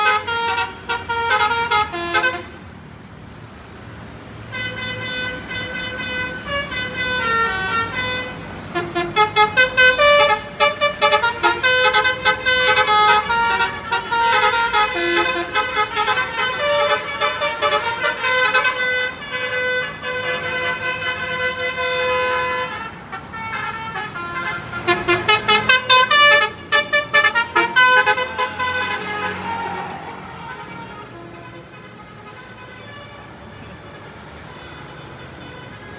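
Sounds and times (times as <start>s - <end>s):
multi-tone bus horns playing tunes: 0.0s - 2.8s, 4.4s - 35.9s.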